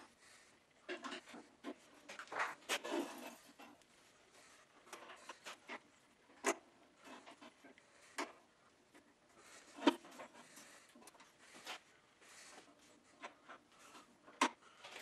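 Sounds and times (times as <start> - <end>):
faint handling clicks and knocks: 0.0 - 15.0.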